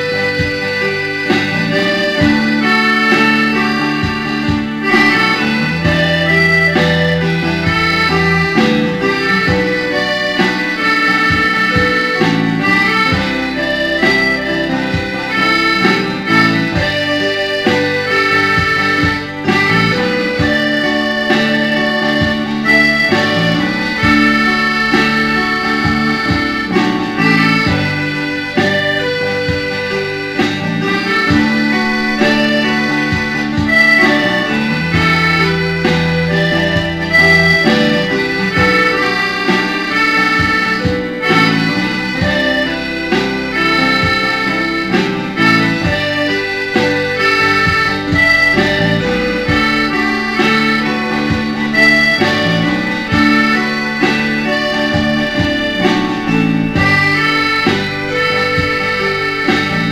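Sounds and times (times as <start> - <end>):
accordion playing slow ballad: 0.0 - 59.9
bass and guitar backing: 0.0 - 59.9.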